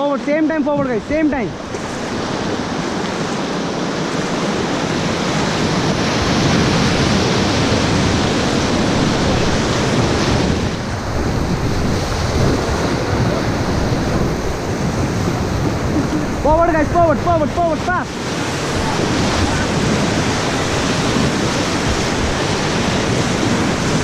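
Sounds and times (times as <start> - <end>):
whitewater rushing and splashing: 0.0 - 24.0
wind buffeting microphone: 0.0 - 24.0.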